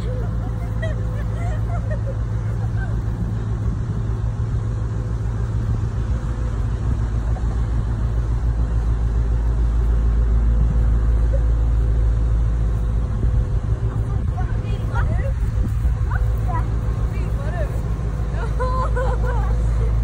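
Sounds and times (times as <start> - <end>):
ship diesel engine rumbling: 0.0 - 20.0.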